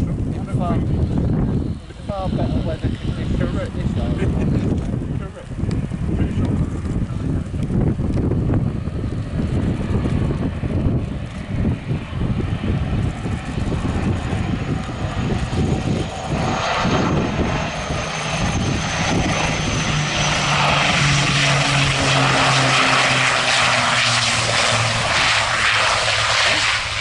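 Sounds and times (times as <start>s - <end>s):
turboprop aircraft engines and propellers: 0.0s - 27.0s
wind buffeting microphone: 0.0s - 27.0s.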